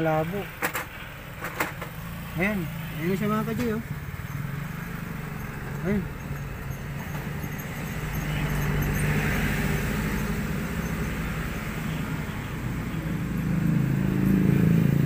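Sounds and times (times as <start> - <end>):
traffic noise: 0.0 - 15.0
vehicle engine running: 0.0 - 15.0.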